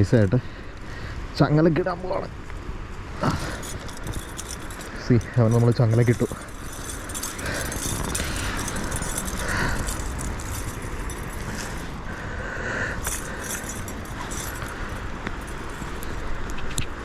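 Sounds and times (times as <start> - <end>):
metal chain jingling: 3.2 - 17.0.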